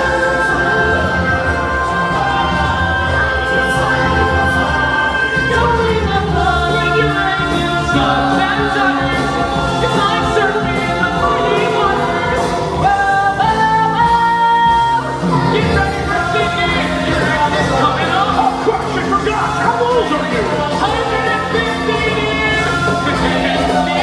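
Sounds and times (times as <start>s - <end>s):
group singing show tune: 0.0s - 24.0s.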